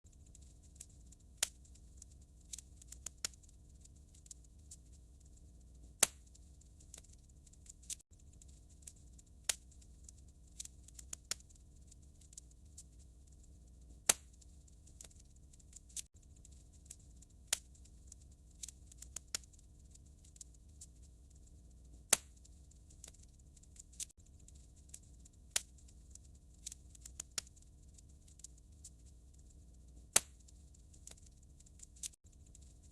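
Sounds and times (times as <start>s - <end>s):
wood fire crackling: 0.1s - 32.9s.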